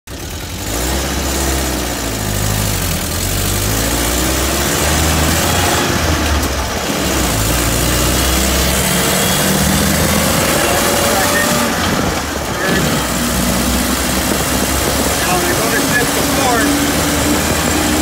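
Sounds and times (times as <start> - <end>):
road and drivetrain noise: 0.0 - 18.0.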